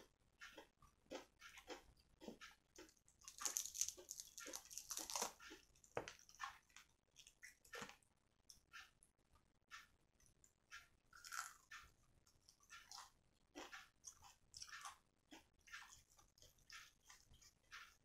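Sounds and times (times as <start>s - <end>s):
chewing crispy fried chicken: 0.0s - 8.9s, 10.7s - 18.0s.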